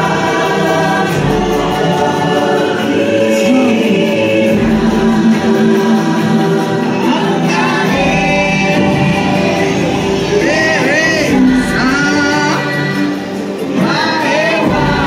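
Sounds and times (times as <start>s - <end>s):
background music: 0.0s - 15.0s
choral singing: 0.0s - 15.0s.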